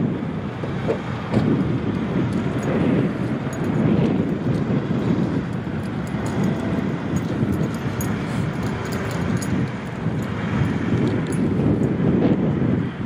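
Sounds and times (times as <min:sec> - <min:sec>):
cars passing close by: 0:00.0 - 0:13.0
wind rumbling on microphone: 0:00.0 - 0:13.0.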